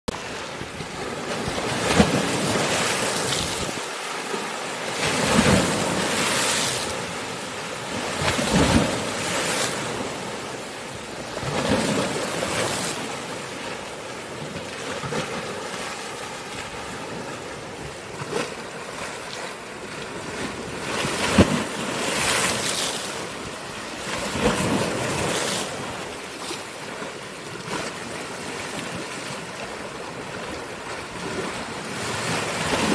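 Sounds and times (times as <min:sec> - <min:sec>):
sea waves breaking on rocks: 0:00.1 - 0:32.9.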